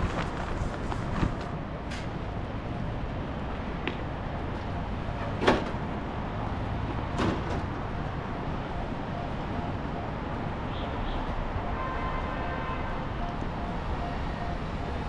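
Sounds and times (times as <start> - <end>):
urban traffic noise: 0.0 - 15.0.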